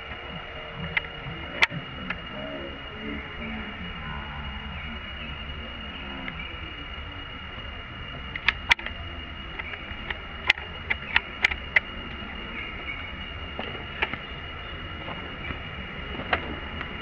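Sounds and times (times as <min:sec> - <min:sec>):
high-pitched hum: 0:00.0 - 0:17.0
outdoor background hiss: 0:00.0 - 0:17.0.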